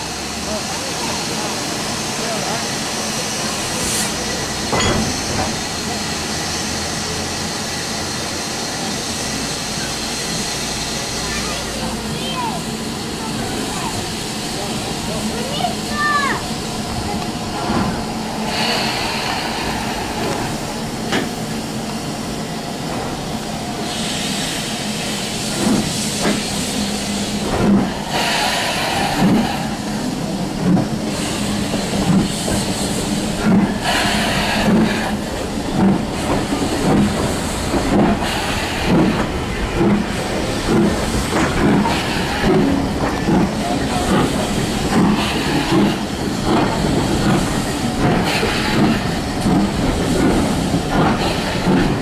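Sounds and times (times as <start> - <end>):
steam hissing: 0.0 - 52.0
steam locomotive exhaust chuffs: 0.1 - 52.0.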